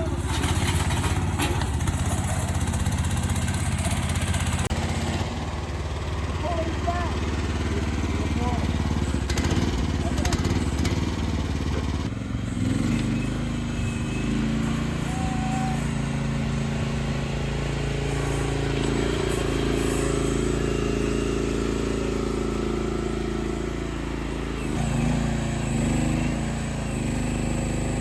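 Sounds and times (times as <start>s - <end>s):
excavator engine running: 0.0s - 28.0s.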